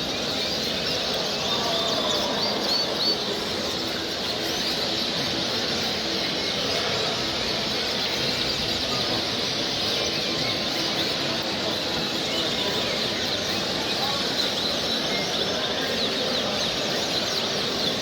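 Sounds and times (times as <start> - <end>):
caged birds chirping: 0.0 - 18.0.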